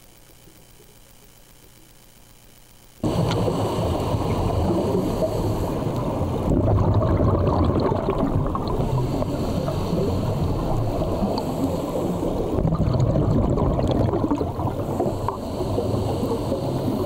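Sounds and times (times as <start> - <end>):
muffled underwater rumble: 3.0 - 17.0
underwater bubbling: 3.0 - 17.0.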